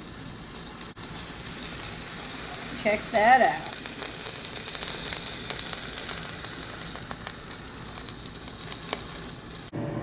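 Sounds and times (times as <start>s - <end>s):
fat sizzling and popping: 0.0s - 9.7s.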